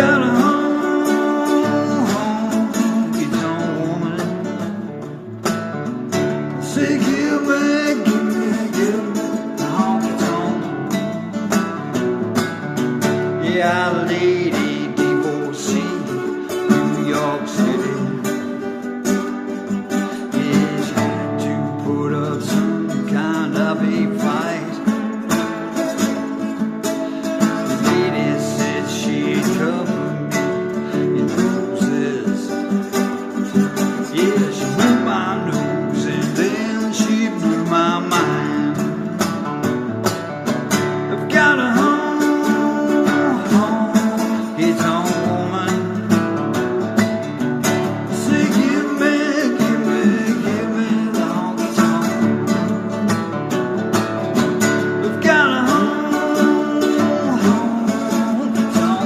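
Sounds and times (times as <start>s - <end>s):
acoustic slide guitar: 0.0s - 59.0s
picked guitar accompaniment: 0.0s - 59.0s.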